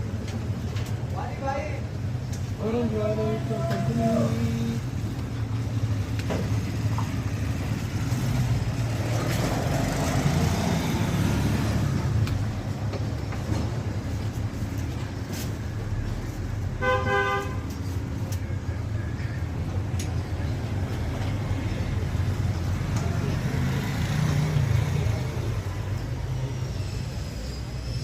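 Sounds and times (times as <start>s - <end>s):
low rumble of motor traffic: 0.0s - 28.0s.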